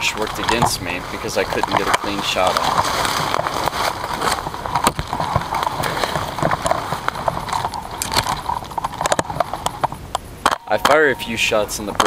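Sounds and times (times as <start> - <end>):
leafy brush rustling and scraping: 0.0 - 10.0, 10.7 - 12.0.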